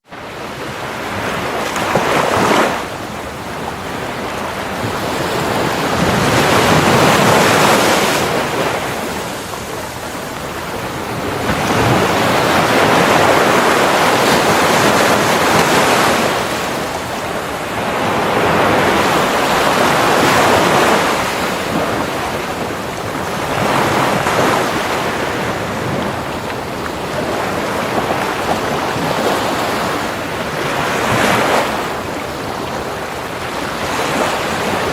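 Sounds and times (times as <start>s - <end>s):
waves breaking on sand: 0.0s - 34.9s
wind noise on microphone: 0.0s - 34.9s.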